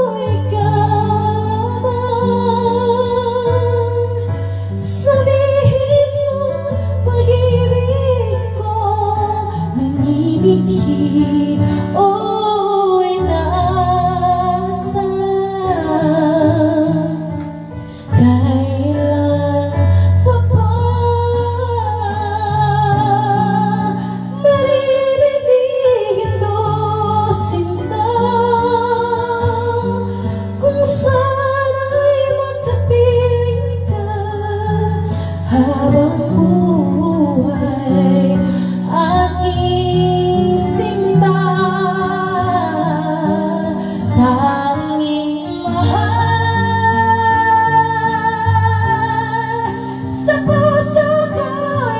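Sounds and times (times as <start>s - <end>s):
woman singing with vibrato: 0.0s - 17.4s, 18.1s - 51.9s.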